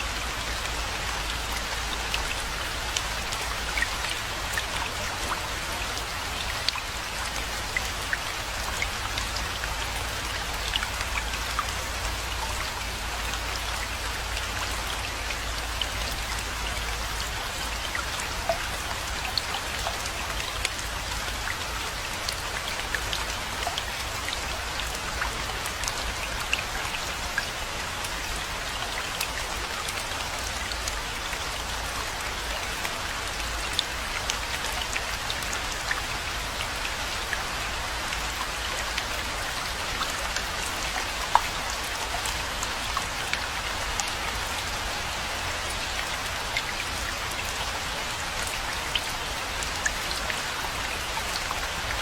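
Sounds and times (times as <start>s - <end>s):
steady rainfall: 0.0s - 52.0s.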